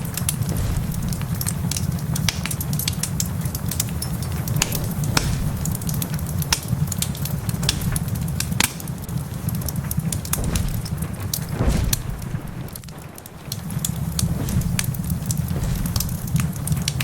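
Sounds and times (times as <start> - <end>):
fire popping: 0.0 - 17.0
heavy rain: 0.0 - 17.0
low rumble: 0.0 - 17.0
wood fire crackling: 0.0 - 17.0.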